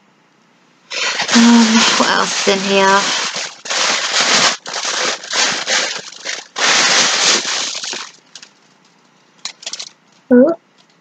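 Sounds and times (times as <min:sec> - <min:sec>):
packaging rustling and crinkling: 0:00.9 - 0:10.0.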